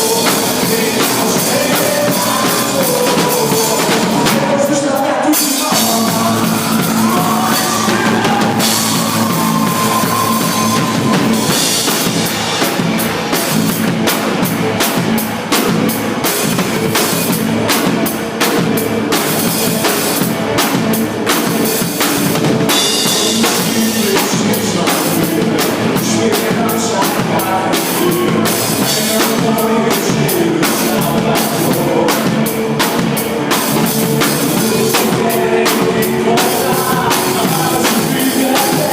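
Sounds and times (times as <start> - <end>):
music with drum kit beat: 0.0 - 38.9.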